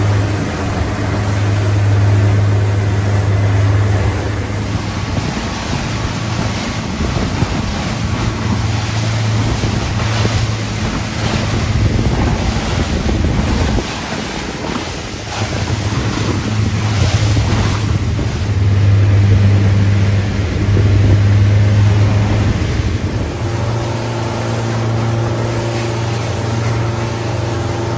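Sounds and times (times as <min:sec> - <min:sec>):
outboard motors droning: 0:00.0 - 0:27.9
water splashing against hull: 0:00.0 - 0:27.9
wind buffeting microphone: 0:00.0 - 0:27.9.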